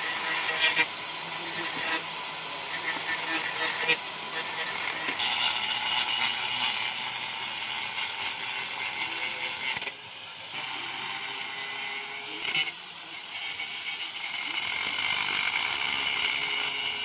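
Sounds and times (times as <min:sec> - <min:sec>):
angle grinder cutting metal: 0:00.0 - 0:17.0.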